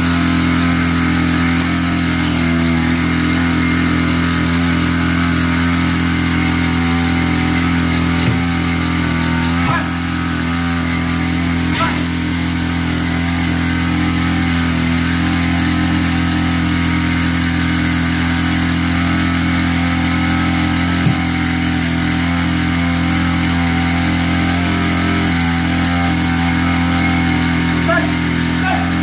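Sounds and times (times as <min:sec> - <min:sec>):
small engine droning: 0:00.0 - 0:29.0.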